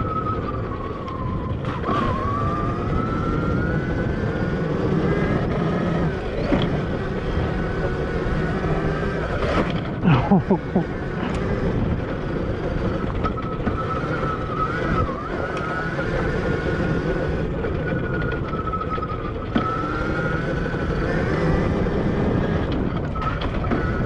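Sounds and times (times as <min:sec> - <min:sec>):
electric motor whining: 0:00.0 - 0:24.0
wind rumble on microphone: 0:00.0 - 0:24.0.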